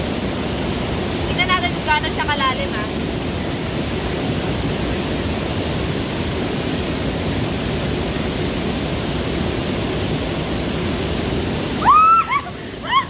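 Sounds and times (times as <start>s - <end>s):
water current rushing: 0.0s - 13.0s.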